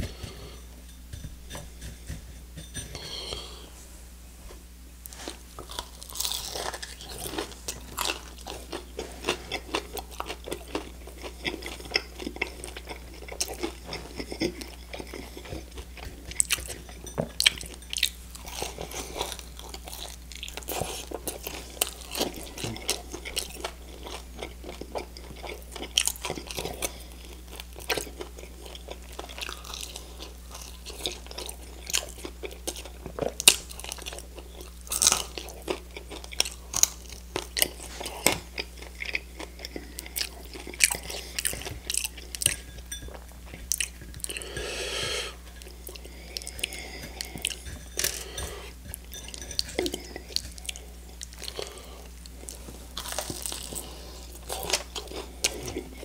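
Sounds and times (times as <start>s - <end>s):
crunching and chewing food: 0.0s - 3.6s, 5.0s - 56.0s.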